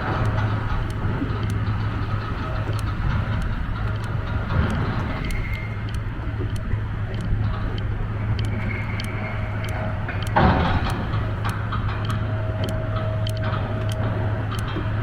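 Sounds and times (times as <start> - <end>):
sharp ticks and clanks: 0.0 - 15.0.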